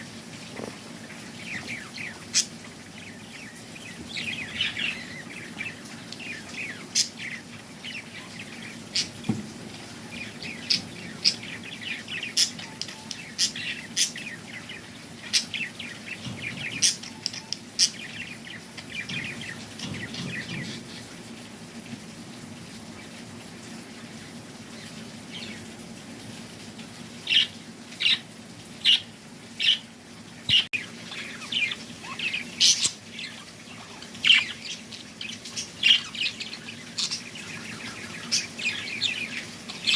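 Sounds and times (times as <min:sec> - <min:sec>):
small birds chirping: 0:00.0 - 0:21.4, 0:23.9 - 0:25.8, 0:27.2 - 0:39.9.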